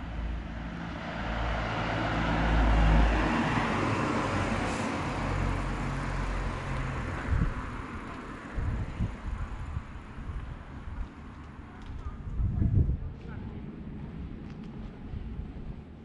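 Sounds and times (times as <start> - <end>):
tyre and road noise: 0.0 - 16.0.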